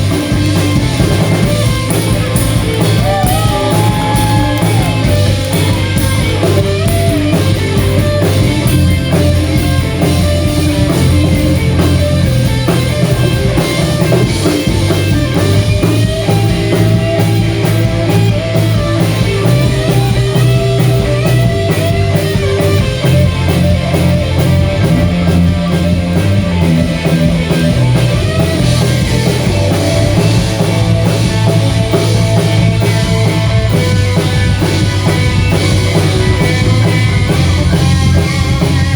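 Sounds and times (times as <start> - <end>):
bass guitar: 0.0 - 38.9
drum kit beat: 0.0 - 38.9
electric guitar melody: 0.0 - 38.9.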